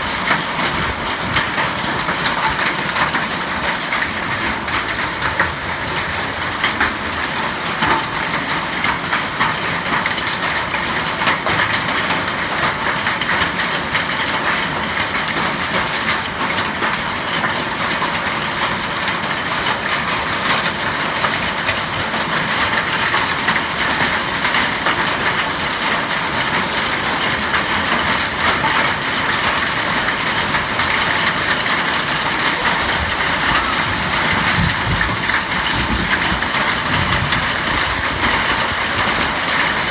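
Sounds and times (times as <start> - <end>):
hailstones pelting down: 0.0 - 39.9.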